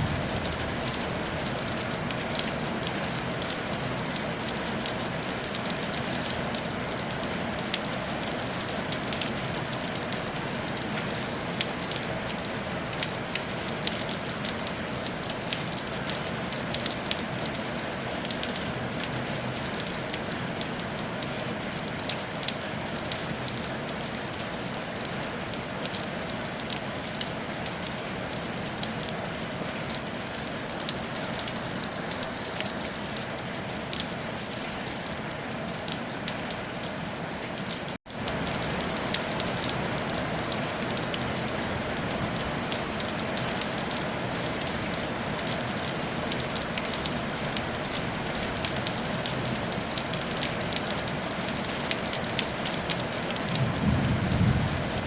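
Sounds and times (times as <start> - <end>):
rain on a tile roof: 0.0 - 55.0.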